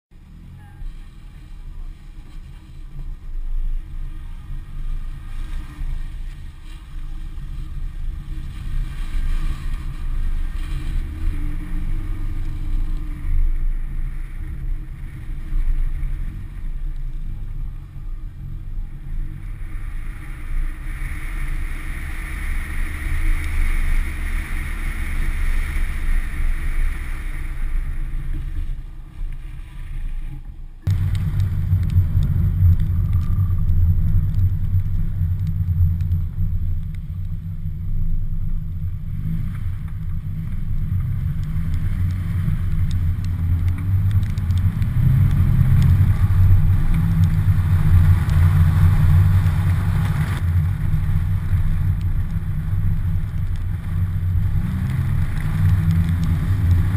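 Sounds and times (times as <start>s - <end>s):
wind: 0.0s - 56.9s
car engine drone: 0.1s - 56.9s.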